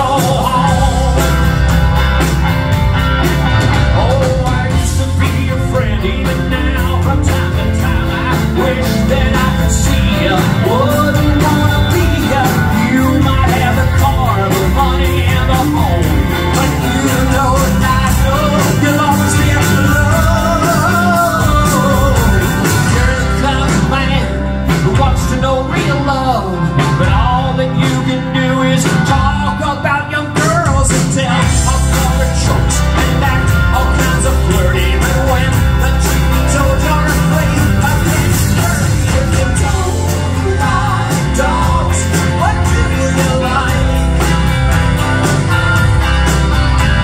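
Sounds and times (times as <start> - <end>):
bass guitar: 0.0 - 47.0
drums: 0.0 - 47.0
electric guitars: 0.0 - 47.0.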